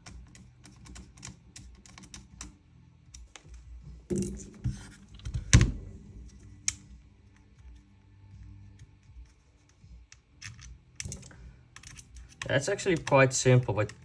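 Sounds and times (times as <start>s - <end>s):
gun parts clicking and tapping: 0.0s - 14.0s.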